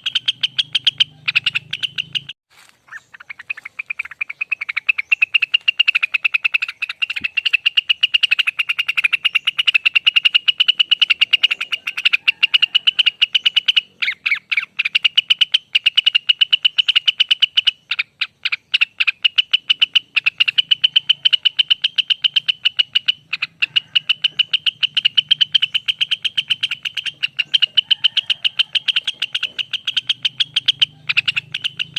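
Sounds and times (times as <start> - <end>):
bird singing a rapid trill: 0.0 - 31.9.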